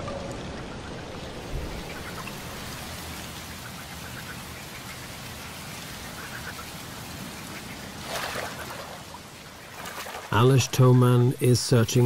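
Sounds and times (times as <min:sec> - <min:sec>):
rain falling on water: 0:00.0 - 0:12.0.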